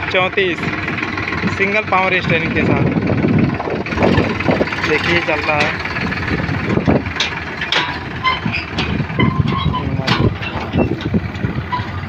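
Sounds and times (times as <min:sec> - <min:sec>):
farm machinery clattering: 0:00.0 - 0:12.0
tractor diesel engine running: 0:00.0 - 0:12.0.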